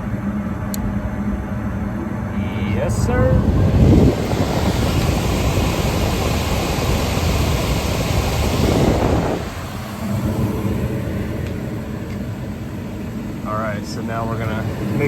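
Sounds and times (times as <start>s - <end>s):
furnace blower rushing air: 0.0s - 15.0s.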